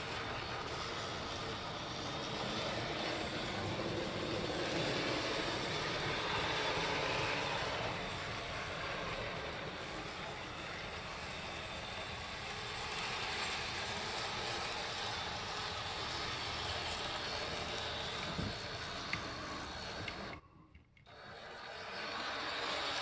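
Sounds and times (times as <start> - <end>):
model train motors whirring: 0.0 - 23.0.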